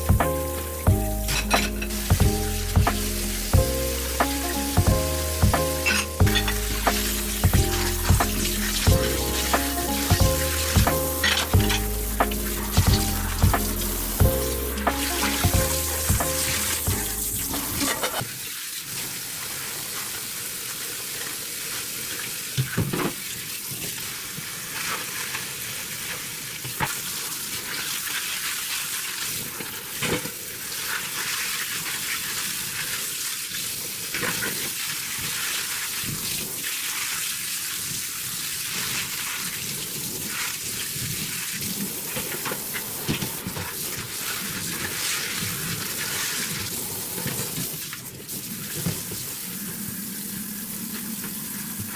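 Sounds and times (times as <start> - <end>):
food sizzling in a pan: 1.3 - 51.9.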